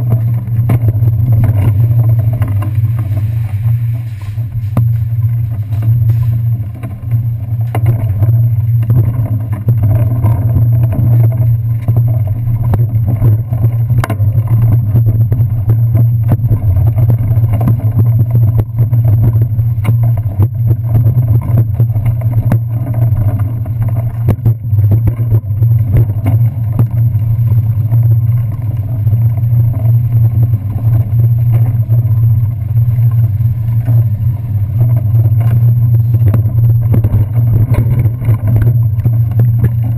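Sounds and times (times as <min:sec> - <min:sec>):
bicycle clicks and rattles: 0:00.0 - 0:39.9
low rumble: 0:00.0 - 0:39.9.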